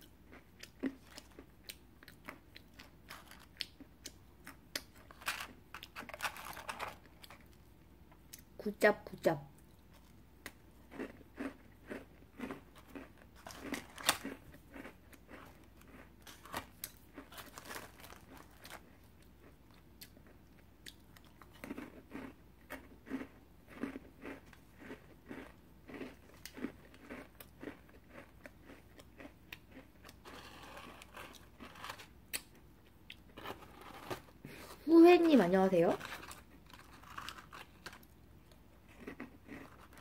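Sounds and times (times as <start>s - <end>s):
crunching crisp cookies: 0.0s - 8.8s, 9.5s - 40.0s.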